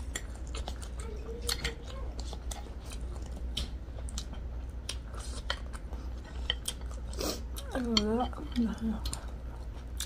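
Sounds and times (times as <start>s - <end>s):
chewing: 0.0s - 10.0s.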